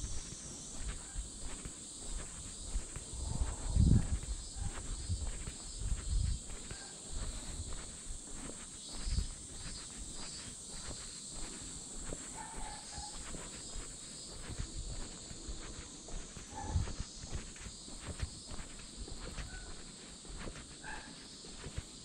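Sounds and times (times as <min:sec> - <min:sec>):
cicadas droning: 0:00.0 - 0:22.0
footsteps walking: 0:00.0 - 0:22.0.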